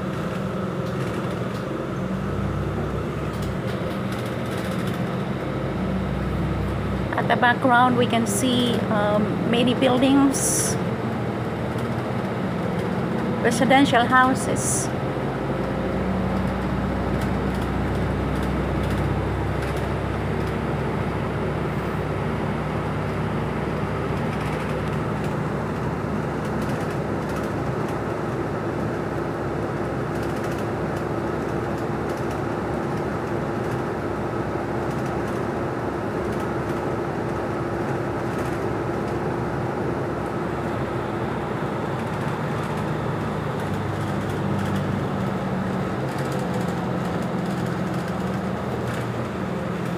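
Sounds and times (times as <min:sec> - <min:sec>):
bus engine drone: 0:00.0 - 0:49.9
road noise: 0:00.0 - 0:49.9.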